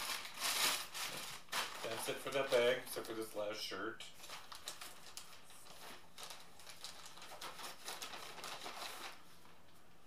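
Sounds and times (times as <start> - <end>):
packaging crinkling: 0.0 - 3.2, 4.2 - 9.3.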